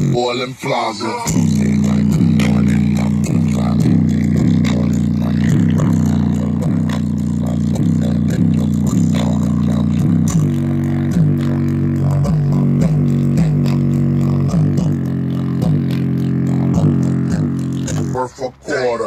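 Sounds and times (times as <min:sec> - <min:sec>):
slowed song through speaker: 0:00.0 - 0:18.9
deep bass line: 0:00.0 - 0:19.0.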